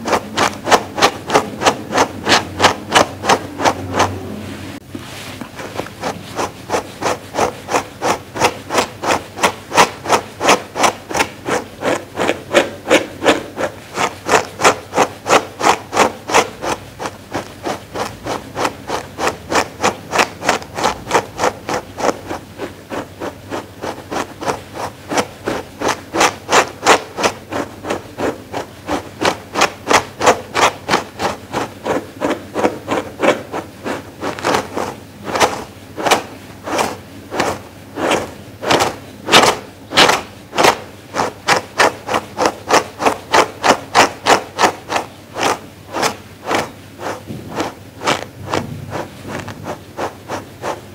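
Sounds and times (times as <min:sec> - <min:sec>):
brush scratching fleece: 0:00.0 - 0:50.9.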